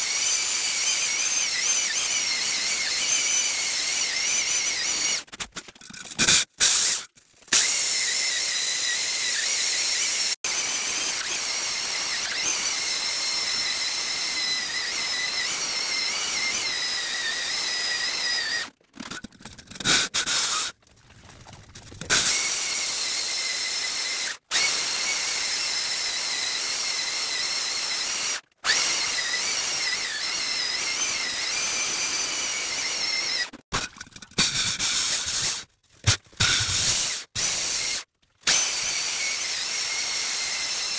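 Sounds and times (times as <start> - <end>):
core drill grinding into rock: 0.0 - 5.3, 6.2 - 18.8, 22.1 - 33.6, 34.4 - 40.9.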